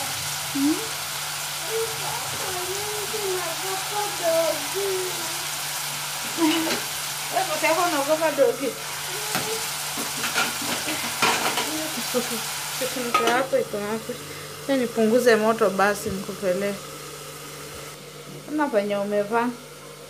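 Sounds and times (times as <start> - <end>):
meat frying sizzle: 0.0 - 20.0.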